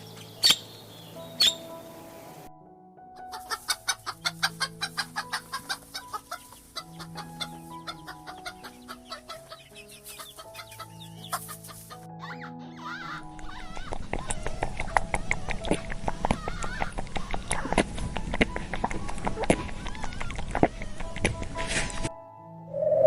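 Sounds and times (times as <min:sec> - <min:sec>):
background music with held notes: 0:00.0 - 0:23.0
chicken clucking: 0:03.2 - 0:22.1.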